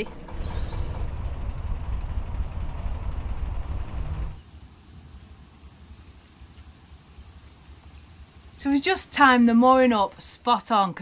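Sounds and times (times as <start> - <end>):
narrowboat engine rumble: 0.0 - 10.5.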